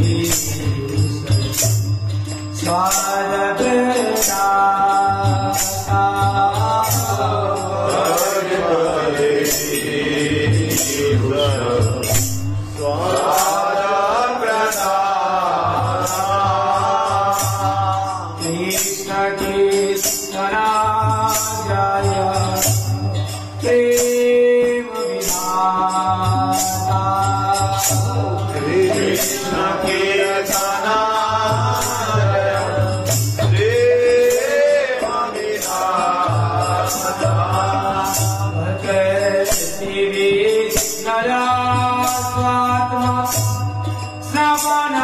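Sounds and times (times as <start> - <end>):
man singing a chant: 0.0 - 1.9, 2.6 - 45.0.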